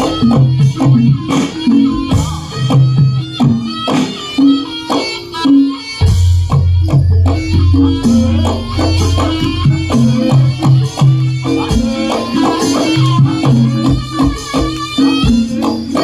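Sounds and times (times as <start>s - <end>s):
drums and pitched percussion: 0.0s - 16.0s.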